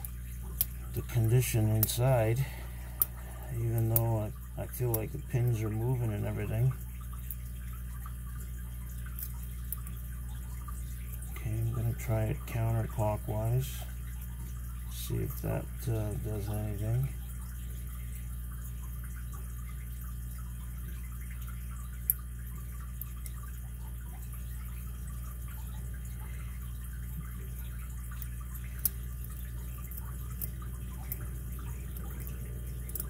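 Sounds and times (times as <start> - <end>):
low hum: 6.3 - 33.0.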